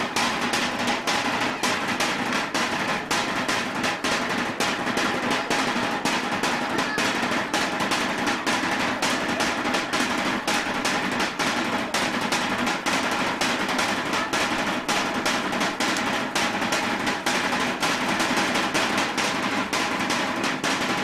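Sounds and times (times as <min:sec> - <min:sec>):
drums playing fast beat: 0:00.0 - 0:21.0.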